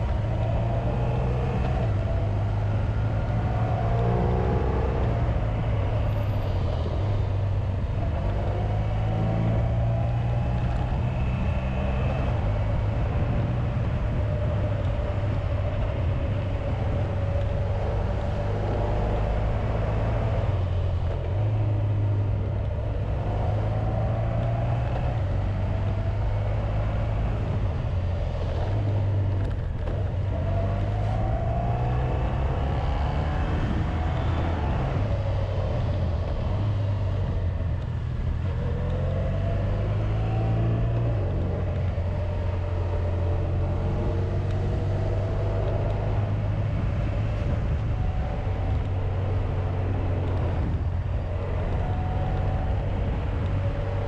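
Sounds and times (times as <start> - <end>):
motorcycle engine drone: 0.0 - 54.0
wind noise: 0.0 - 54.0.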